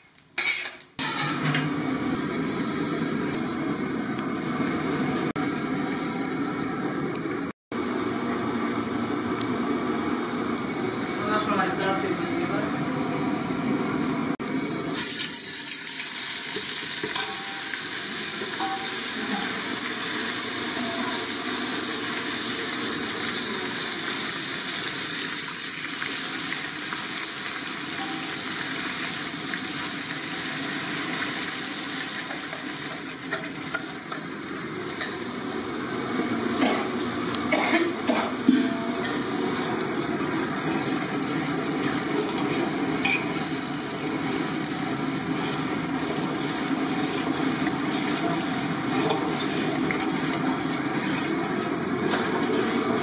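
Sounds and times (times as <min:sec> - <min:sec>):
hot oil sizzling: 0:00.0 - 0:53.0.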